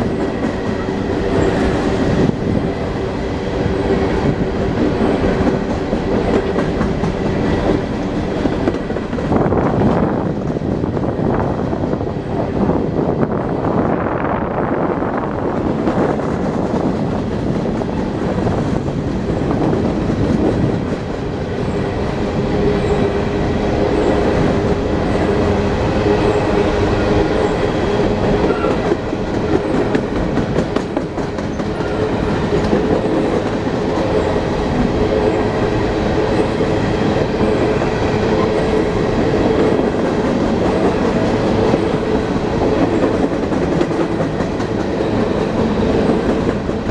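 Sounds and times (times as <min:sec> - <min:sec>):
train rumbling: 0:00.0 - 0:46.9.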